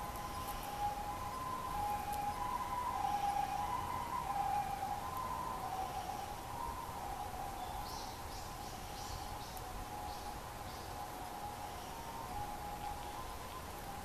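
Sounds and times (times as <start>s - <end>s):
two-tone emergency vehicle siren: 0.0s - 14.0s.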